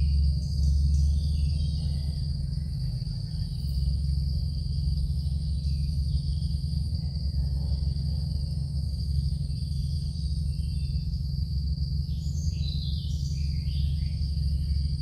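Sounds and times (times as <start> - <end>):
insects chorus: 0.0 - 15.0
low rumble: 0.0 - 15.0.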